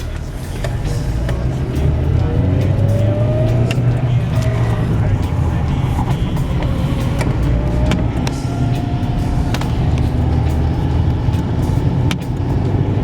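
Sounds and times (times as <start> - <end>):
engine and road rumble: 0.0 - 13.0
faint rising whine: 0.0 - 13.0.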